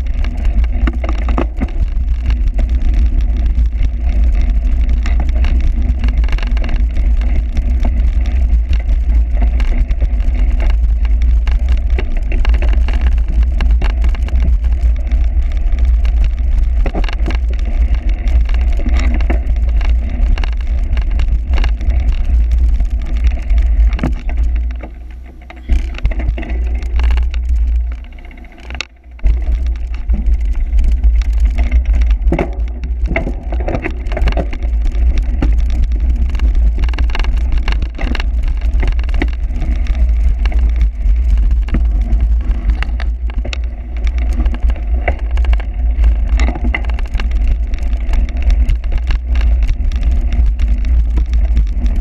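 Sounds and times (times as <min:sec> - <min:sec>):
bike rattles and knocks: 0:00.0 - 0:52.0.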